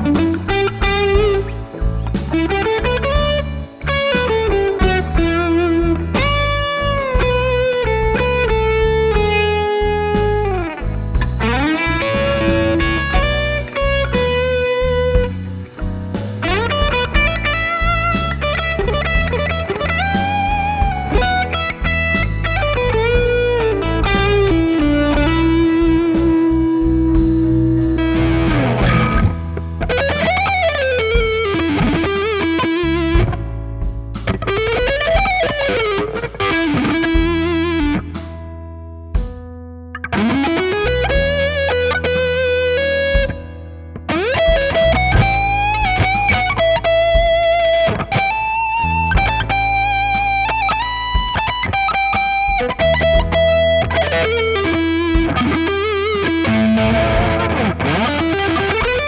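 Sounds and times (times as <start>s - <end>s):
overdriven electric guitar lead: 0.0s - 38.5s, 40.0s - 59.0s
blues backing track: 0.0s - 59.0s.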